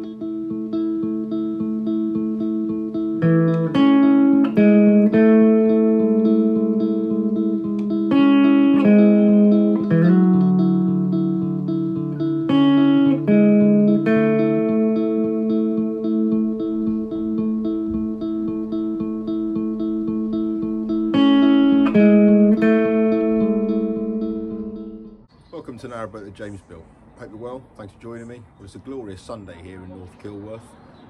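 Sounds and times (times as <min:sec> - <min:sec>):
plucked guitar tune: 0:00.0 - 0:25.3.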